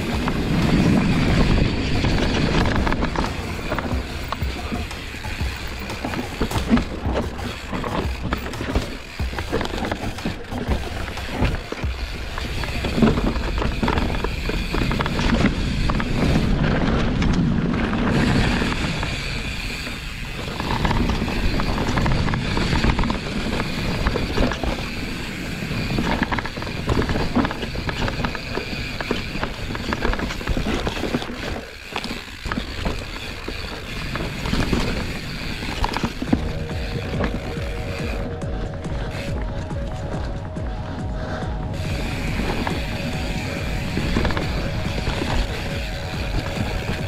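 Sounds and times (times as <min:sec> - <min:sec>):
bike rattling over bumps: 0:00.0 - 0:47.0
bike tyres on dirt: 0:00.0 - 0:47.0
wind rumbling on microphone: 0:00.0 - 0:47.0.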